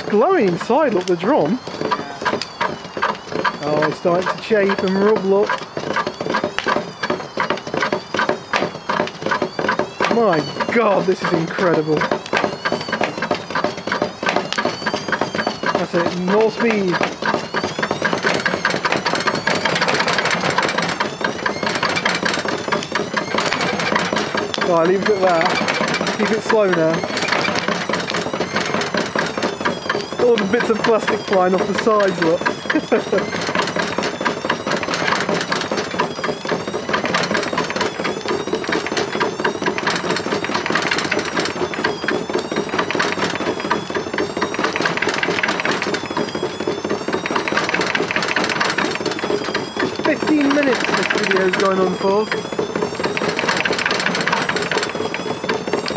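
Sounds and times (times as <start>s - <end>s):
fire crackling: 0.0s - 55.9s
motor whine rising in pitch: 0.0s - 55.9s
washing machine drum clattering: 0.0s - 55.9s.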